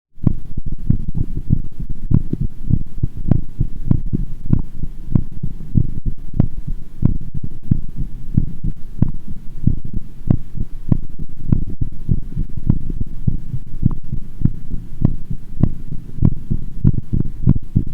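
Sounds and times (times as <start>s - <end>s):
fast heartbeat thumps: 0.2s - 17.9s
steady low rumble: 0.2s - 17.9s.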